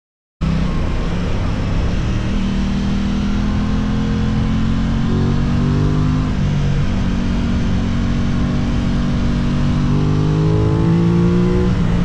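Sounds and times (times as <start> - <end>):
motorcycle engine running: 0.4 - 12.0.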